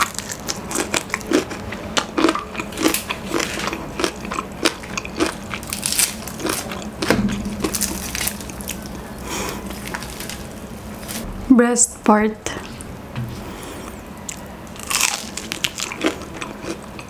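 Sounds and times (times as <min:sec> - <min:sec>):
crunching and chewing fried chicken: 0:00.0 - 0:11.2, 0:13.7 - 0:17.0.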